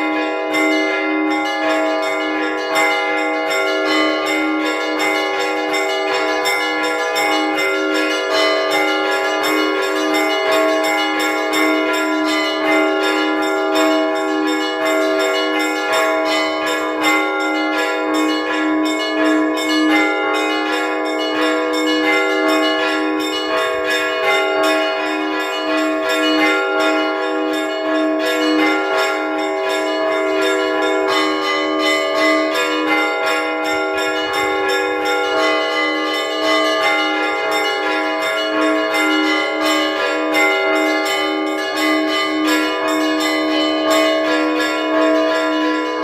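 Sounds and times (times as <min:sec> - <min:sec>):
church bells ringing: 0:00.0 - 0:46.0
low bell steady beat: 0:00.0 - 0:46.0.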